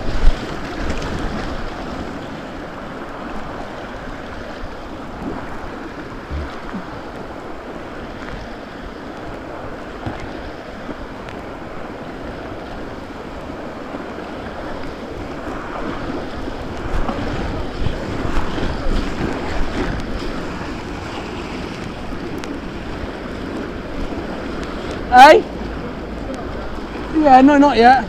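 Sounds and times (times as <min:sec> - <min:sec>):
river rapids rushing and splashing: 0:00.0 - 0:28.0.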